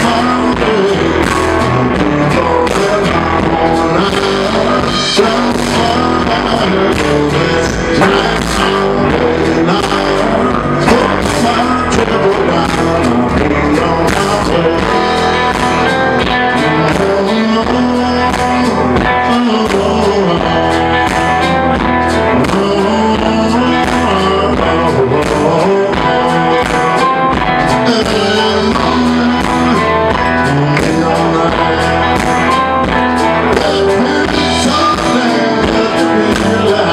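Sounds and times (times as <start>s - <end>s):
bass guitar: 0.0s - 36.9s
drum kit: 0.0s - 36.9s
electric guitars: 0.0s - 36.9s.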